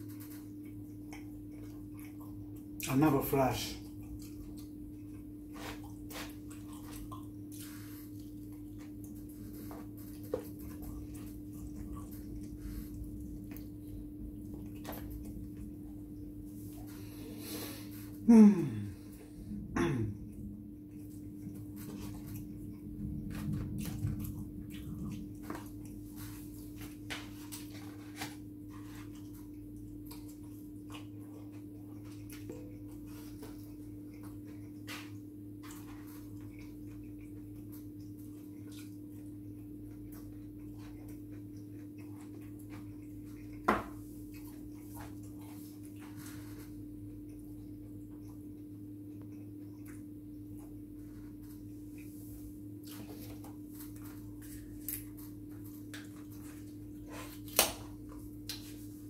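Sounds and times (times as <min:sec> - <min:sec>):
chewing: 0:00.0 - 0:02.9, 0:03.8 - 0:18.2, 0:18.9 - 0:59.0
steady low hum: 0:00.0 - 0:59.0.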